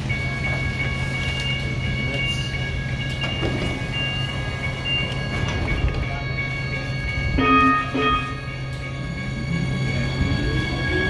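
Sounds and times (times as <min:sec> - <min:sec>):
train low hum: 0:00.0 - 0:11.0.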